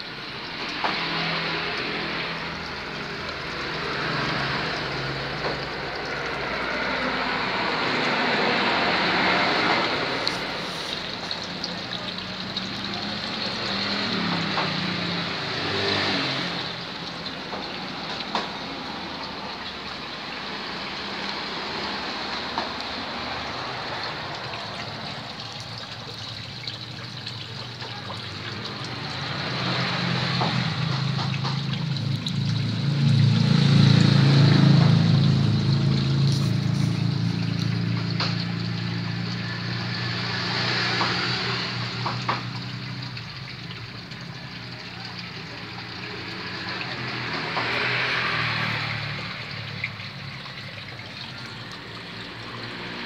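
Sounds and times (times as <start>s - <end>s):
water splashing into pond: 0.0s - 53.0s.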